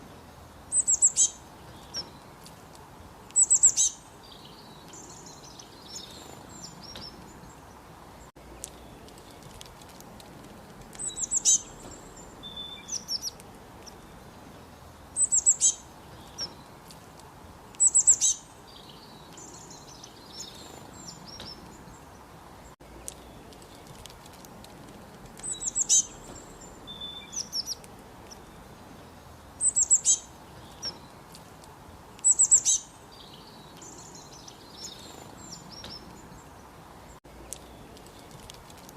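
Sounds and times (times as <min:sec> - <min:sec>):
low hiss: 0:00.0 - 0:38.9
soft bird chirps: 0:00.0 - 0:38.9
songbird singing: 0:00.0 - 0:38.9.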